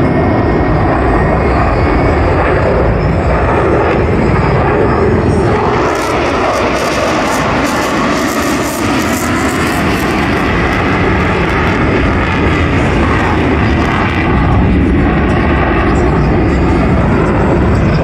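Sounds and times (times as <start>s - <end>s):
fighter jet flying overhead: 0.0s - 18.0s.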